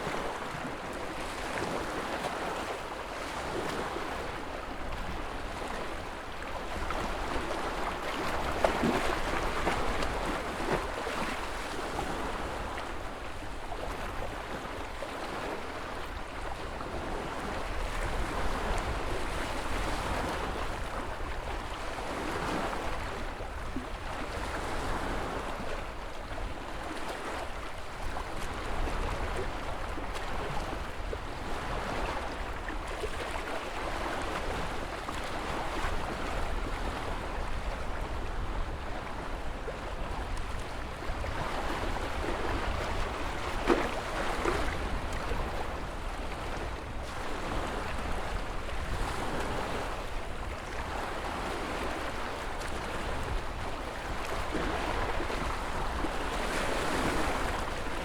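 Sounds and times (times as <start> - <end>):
low rumble of surf: 0.0 - 58.0.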